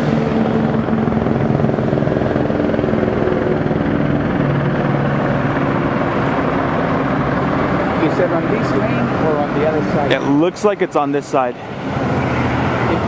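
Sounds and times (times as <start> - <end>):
helicopter engine drone: 0.0 - 13.0
helicopter rotor beat: 0.0 - 13.0.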